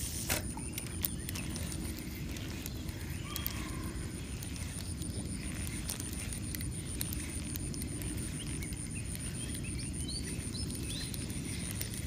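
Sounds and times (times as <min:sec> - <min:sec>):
insect drone: 0:00.0 - 0:12.0
bird chirps: 0:00.5 - 0:12.0.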